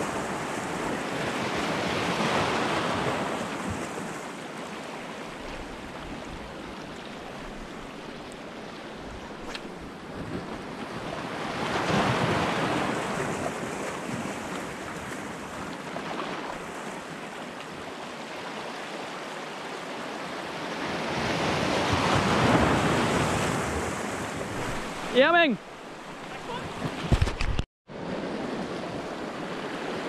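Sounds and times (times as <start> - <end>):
small waves on rocky shore: 0.0 - 30.0.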